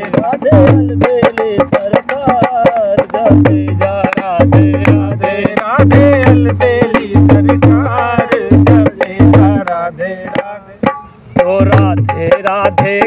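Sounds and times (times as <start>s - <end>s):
hand drum played in quick rhythm: 0.0s - 13.0s
man singing devotional song: 0.0s - 13.0s.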